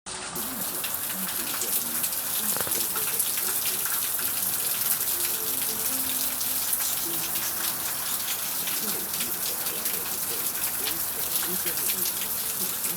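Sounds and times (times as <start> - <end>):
rain falling: 0.1 - 12.9.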